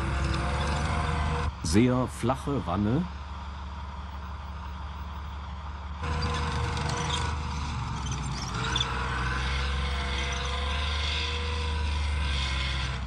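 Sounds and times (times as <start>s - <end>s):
tank engine running: 0.0s - 13.0s.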